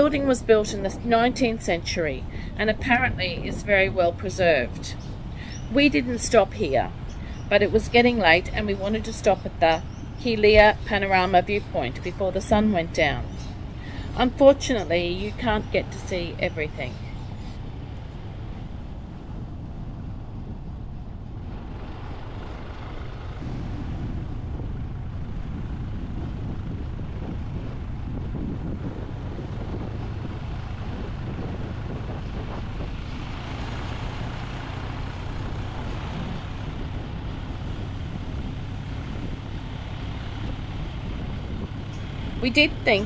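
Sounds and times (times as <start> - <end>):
motorbike engine running: 0.0 - 43.0
road and wind noise: 0.0 - 43.0.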